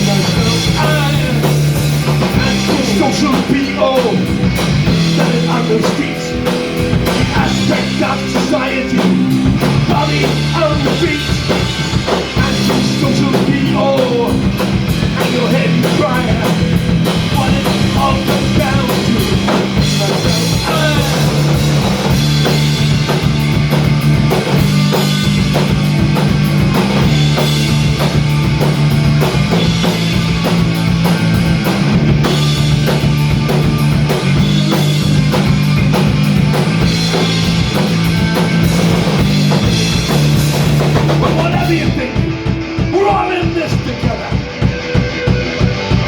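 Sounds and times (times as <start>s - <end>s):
bass guitar: 0.0s - 46.0s
distorted electric guitar: 0.0s - 46.0s
drum kit beat: 0.0s - 46.0s.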